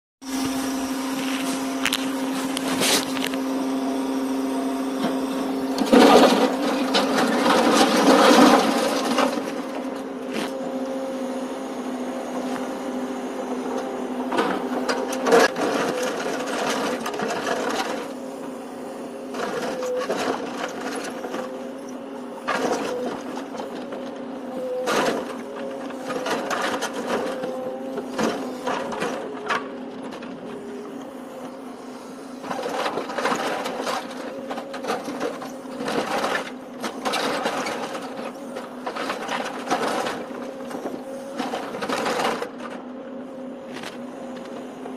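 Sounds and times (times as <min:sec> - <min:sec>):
crane engine and hydraulics humming: 0:00.2 - 0:44.9.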